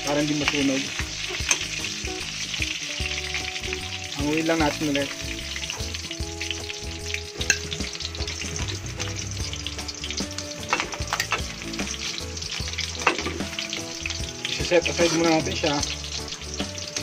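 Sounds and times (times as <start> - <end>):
beef sizzling in hot oil: 0.0 - 17.0.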